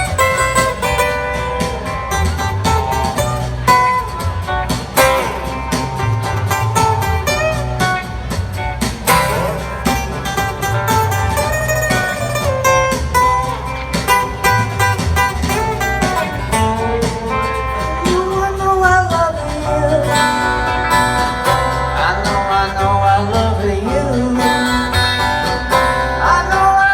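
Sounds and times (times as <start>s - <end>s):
country band instrumental: 0.0s - 26.9s.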